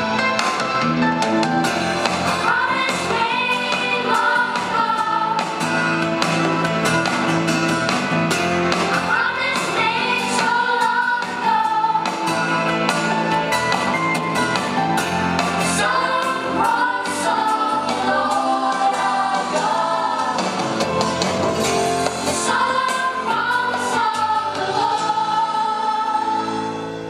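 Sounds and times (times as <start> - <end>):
song with singing and accompaniment: 0.0 - 27.0.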